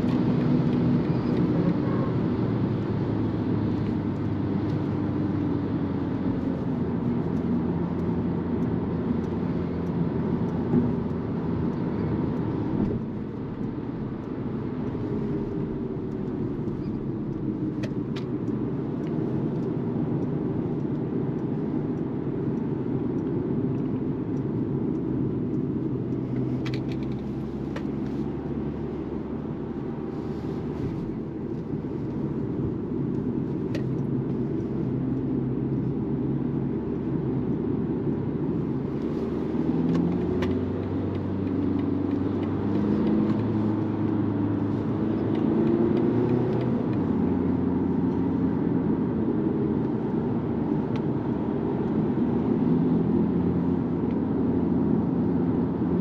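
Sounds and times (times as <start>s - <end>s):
diesel engine accelerating: 0.0s - 56.0s
road noise drone in car cabin: 0.0s - 56.0s.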